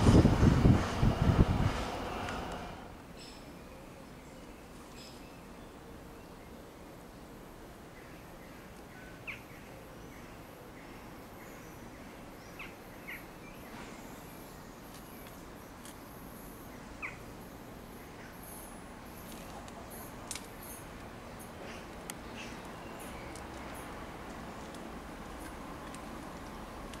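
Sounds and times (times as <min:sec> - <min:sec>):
faint outdoor background noise: 0:00.0 - 0:27.0.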